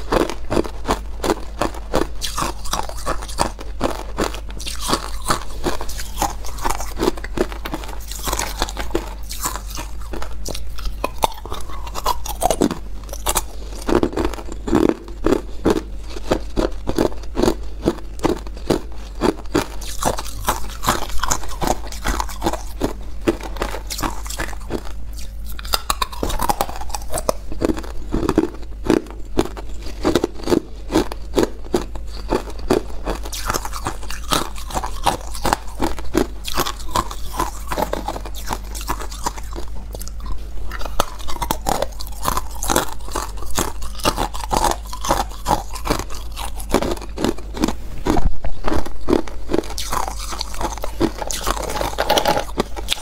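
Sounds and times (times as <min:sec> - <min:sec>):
ice crunching while chewed: 0:00.0 - 0:53.0.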